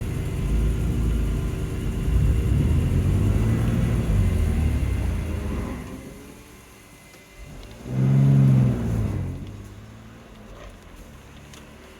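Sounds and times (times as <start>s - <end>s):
car engine low rumble: 0.0s - 11.9s.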